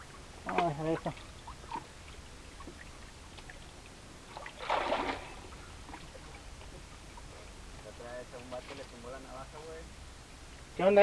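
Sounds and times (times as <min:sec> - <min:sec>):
low steady rumble: 0:00.0 - 0:11.0
river water against rocks: 0:00.0 - 0:11.0.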